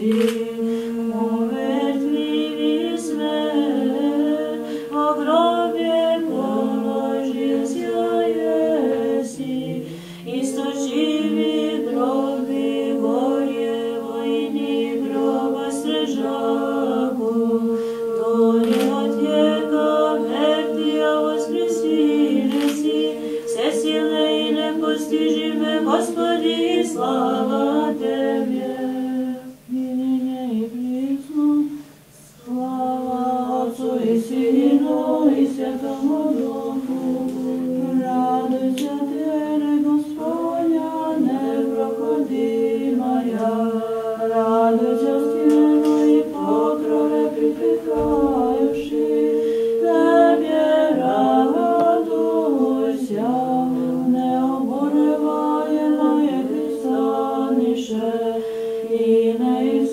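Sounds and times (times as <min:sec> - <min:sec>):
choir singing church chant: 0:00.0 - 0:59.9.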